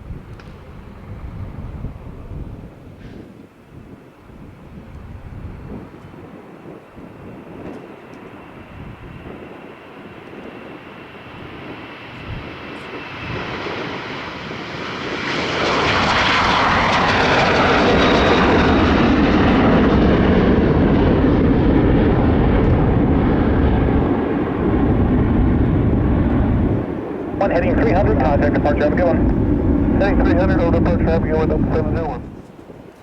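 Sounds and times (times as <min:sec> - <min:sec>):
faint jet whine: 0:00.0 - 0:33.0
jet engines roaring at takeoff: 0:00.0 - 0:33.0.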